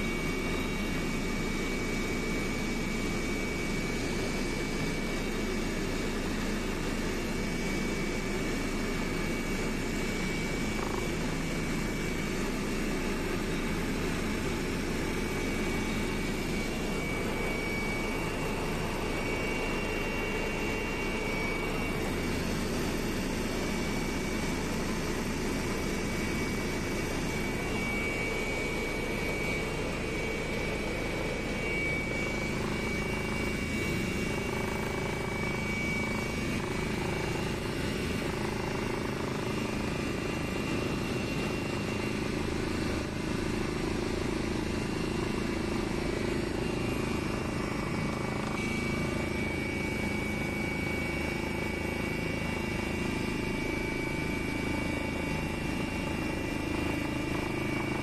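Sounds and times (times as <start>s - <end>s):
aircraft engine drone: 0.0s - 58.0s
thin steady whine: 0.0s - 58.0s.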